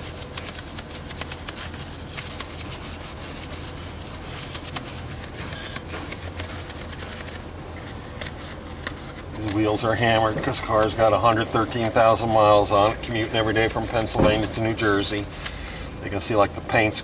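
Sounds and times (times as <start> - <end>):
brush scrubbing wet wheel: 0.0 - 17.0.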